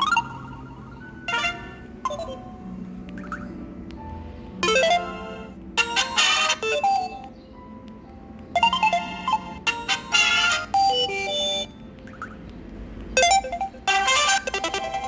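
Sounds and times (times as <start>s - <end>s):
synthesized phone ringtone melodies: 0.0s - 3.7s, 4.6s - 7.4s, 8.5s - 12.4s, 13.2s - 15.0s.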